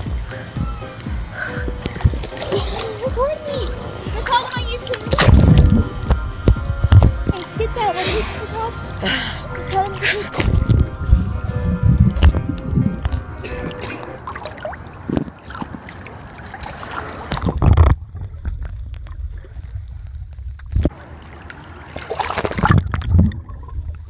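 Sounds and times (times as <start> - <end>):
pool water sloshing and gurgling: 1.2 - 8.6, 10.1 - 24.0.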